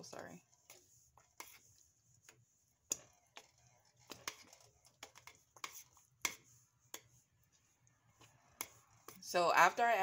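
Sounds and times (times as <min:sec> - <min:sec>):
spoon scraping metal pot: 0:00.0 - 0:10.0.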